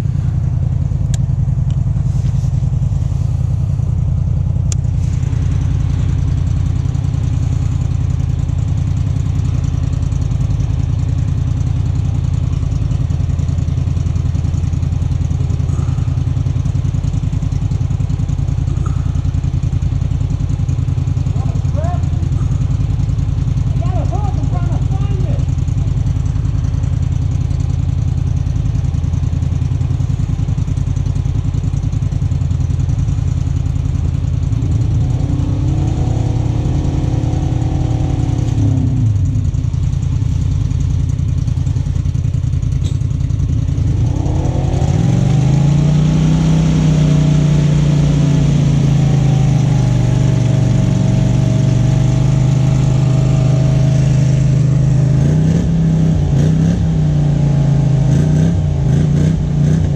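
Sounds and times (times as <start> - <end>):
off-road vehicle engine revving: 0.0 - 28.3, 33.1 - 40.8, 42.3 - 59.9.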